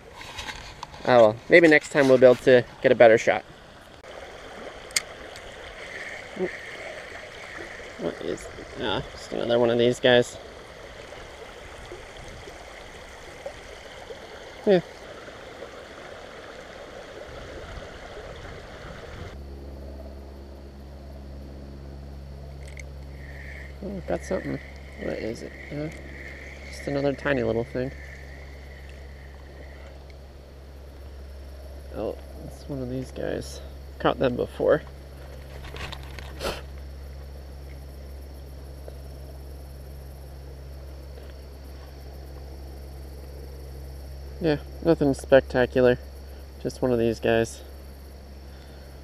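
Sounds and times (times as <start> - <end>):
creek water running over rocks: 0.0 - 19.4, 23.1 - 49.0
crickets chirring: 0.0 - 49.0
low steady hum: 0.0 - 49.0.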